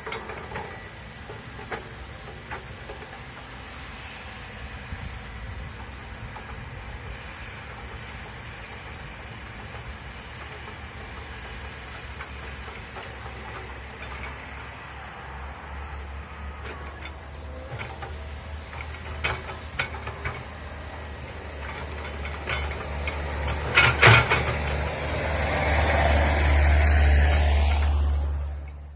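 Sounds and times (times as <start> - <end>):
excavator engine running: 0.0 - 28.9.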